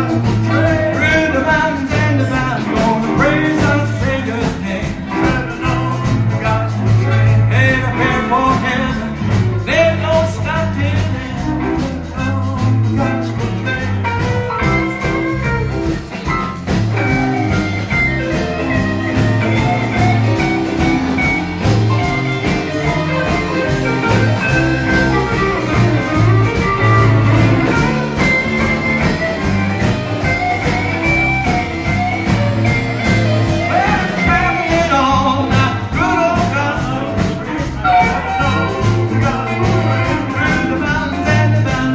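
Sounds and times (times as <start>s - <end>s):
blues band playing: 0.0s - 41.9s
guitar lead with bending notes: 0.0s - 41.9s.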